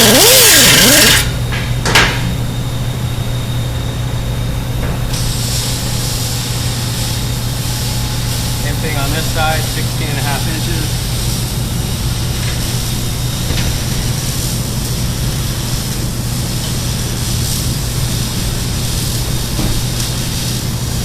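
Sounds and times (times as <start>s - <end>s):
machine hum: 0.0s - 19.4s.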